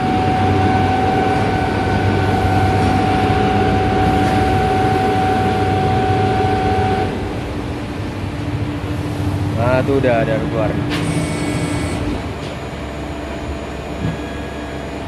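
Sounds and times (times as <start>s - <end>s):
machine low hum: 0.0s - 15.0s
machine whine: 0.0s - 15.0s.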